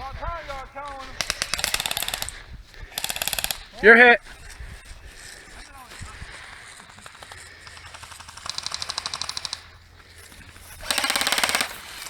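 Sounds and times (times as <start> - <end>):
airsoft guns firing bursts: 0.0 - 12.0.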